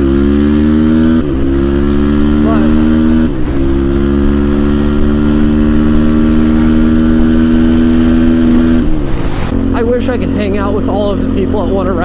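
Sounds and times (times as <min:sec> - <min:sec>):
atv engine running high: 0:00.0 - 0:12.0.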